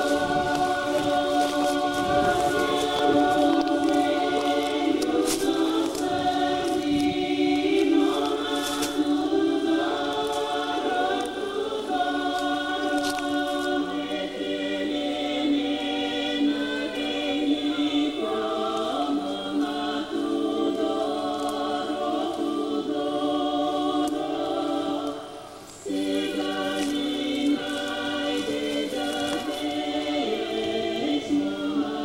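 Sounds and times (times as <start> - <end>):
choir singing slow chords: 0.0 - 32.0.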